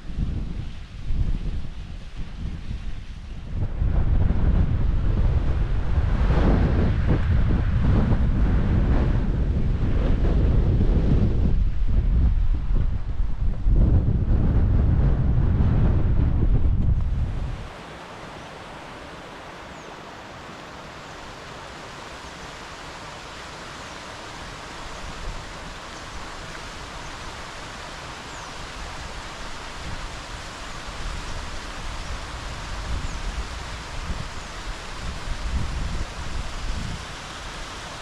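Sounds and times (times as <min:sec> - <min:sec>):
wind buffeting microphone: 0:00.0 - 0:22.4, 0:28.2 - 0:38.0
strong wind rushing: 0:00.0 - 0:23.0, 0:29.5 - 0:37.6.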